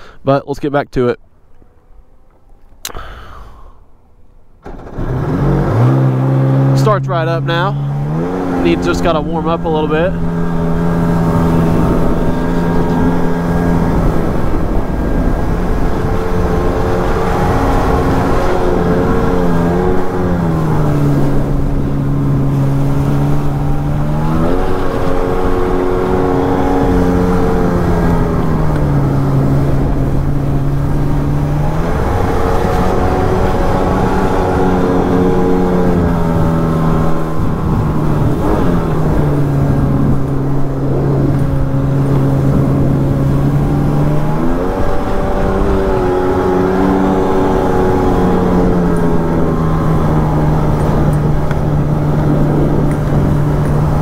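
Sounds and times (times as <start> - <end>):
jet ski engine running hard: 4.6 - 54.0
water and wind rushing: 4.8 - 54.0.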